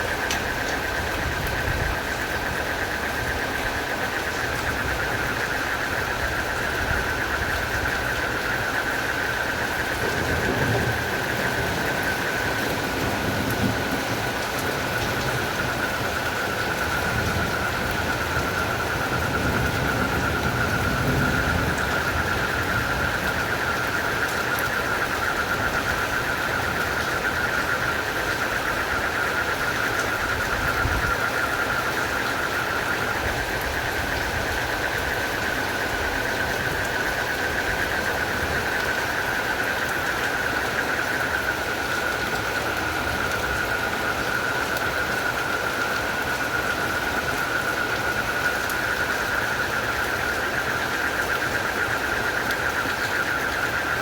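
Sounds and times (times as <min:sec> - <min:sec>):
crickets and frogs trilling: 0:00.0 - 0:54.0
steady rain hiss: 0:00.0 - 0:54.0.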